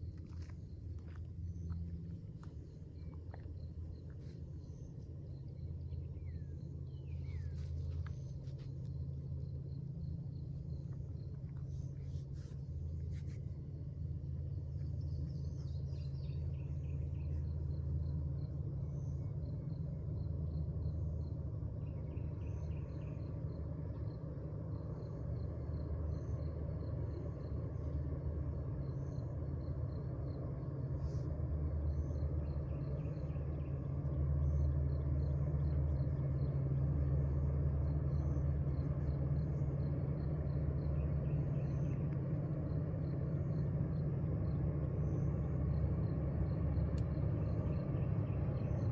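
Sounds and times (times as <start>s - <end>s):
diesel locomotive rumble: 0.0s - 48.9s
insects chirping: 0.0s - 48.9s.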